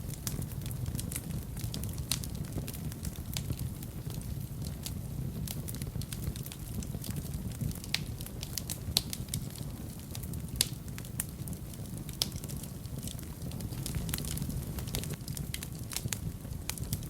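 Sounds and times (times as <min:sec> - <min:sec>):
burning logs crackling and popping: 0:00.0 - 0:17.0
rumble of fire flames: 0:00.0 - 0:17.0.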